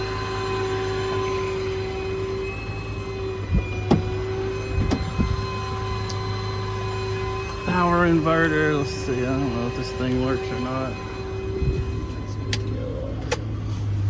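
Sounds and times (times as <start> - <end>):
mechanical hum with whine: 0.0 - 14.0.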